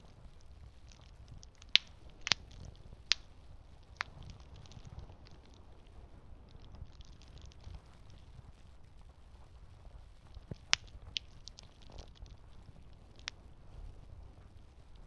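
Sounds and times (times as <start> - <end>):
burning wood popping: 0.0 - 9.3, 10.2 - 15.0
campfire low rumble: 0.0 - 15.0
faint fire crackle: 0.0 - 15.0.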